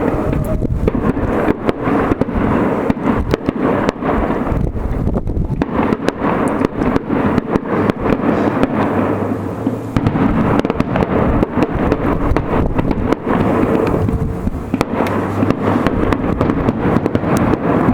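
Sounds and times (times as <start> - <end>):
fireworks bangs and crackles: 0.0 - 17.9
rumble of firework bursts: 0.0 - 17.9.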